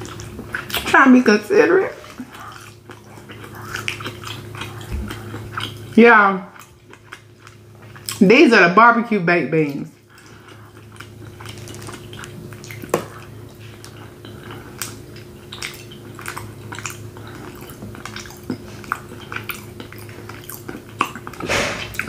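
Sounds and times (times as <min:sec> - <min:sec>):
wet chewing: 0:00.0 - 0:08.3, 0:10.0 - 0:22.0
steady low hum: 0:00.0 - 0:22.0.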